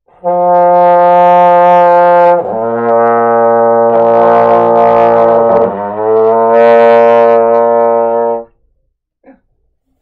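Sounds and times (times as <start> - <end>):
trombones holding low notes: 0.1 - 8.7.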